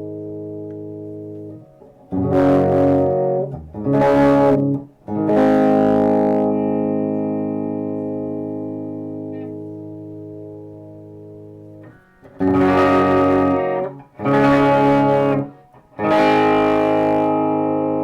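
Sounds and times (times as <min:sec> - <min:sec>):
electric guitar chords strummed: 0:00.0 - 0:18.0.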